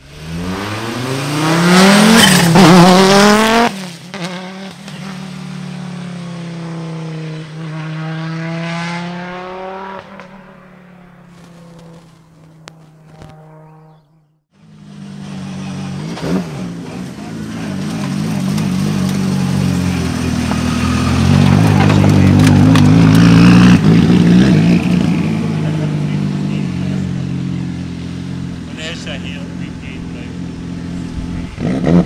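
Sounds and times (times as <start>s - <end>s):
rally car engine passing: 0.0s - 32.0s.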